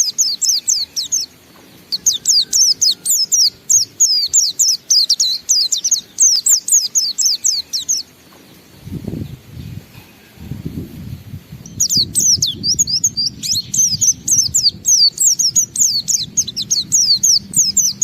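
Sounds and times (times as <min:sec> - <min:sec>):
bird singing high chirps: 0:00.0 - 0:10.4, 0:11.6 - 0:18.0.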